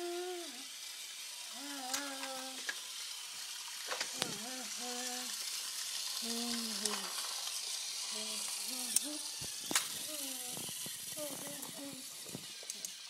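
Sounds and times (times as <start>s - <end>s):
toy train motor whirring: 0.0s - 13.0s
light clicks of toy train: 0.1s - 13.0s.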